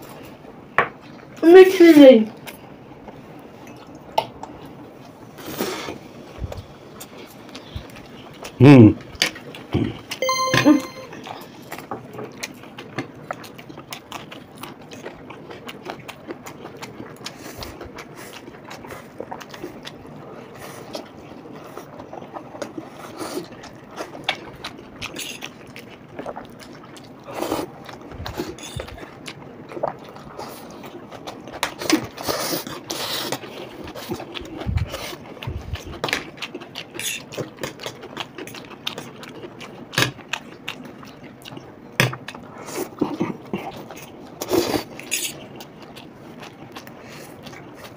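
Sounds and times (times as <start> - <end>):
chewing noodles: 2.3 - 10.2, 11.4 - 47.9.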